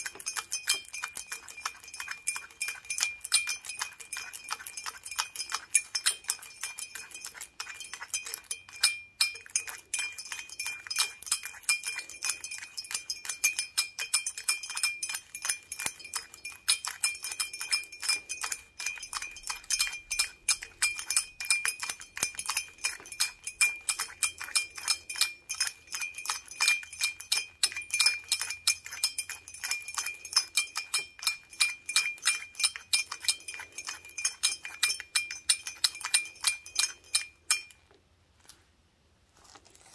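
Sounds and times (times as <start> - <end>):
glass ringing: 0.0 - 37.8
toothpicks tapping on glass: 0.0 - 37.8.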